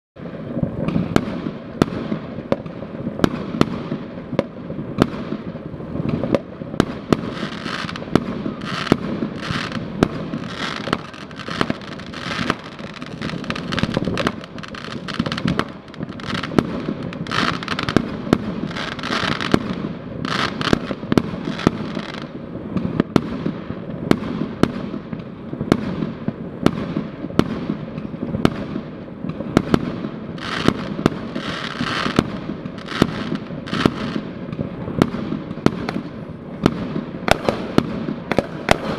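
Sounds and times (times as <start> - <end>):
firecrackers crackling: 0.2 - 38.9
fireworks bangs: 0.2 - 38.9.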